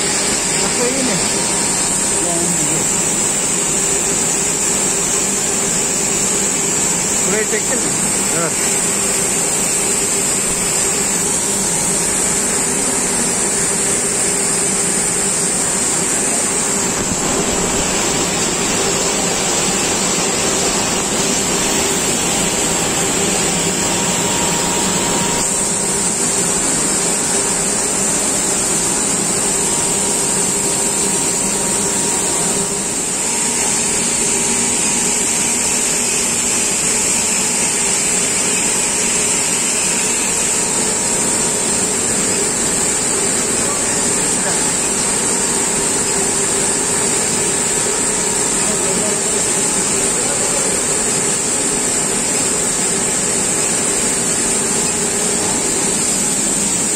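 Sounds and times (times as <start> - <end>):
annealing machine hissing and humming: 0.0 - 56.9.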